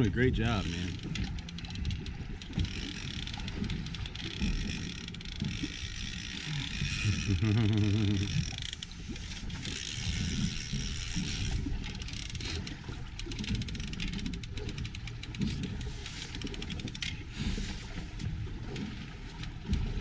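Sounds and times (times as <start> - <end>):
fishing reel being cranked: 0.0 - 17.7
boat motor hum: 0.0 - 20.0.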